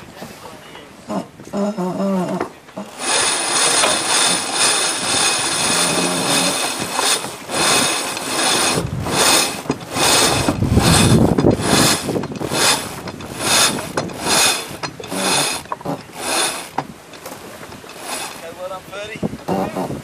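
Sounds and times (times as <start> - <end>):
winch ratcheting clatter: 2.7 - 20.0.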